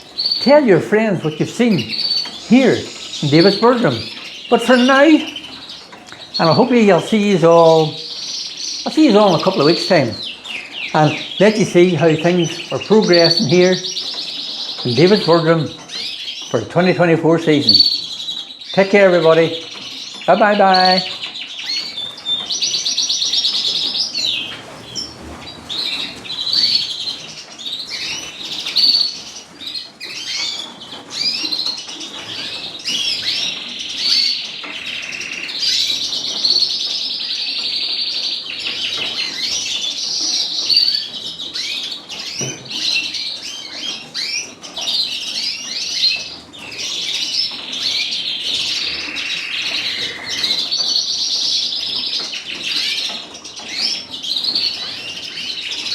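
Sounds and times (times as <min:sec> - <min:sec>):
canaries and finches singing: 0:00.0 - 0:55.9.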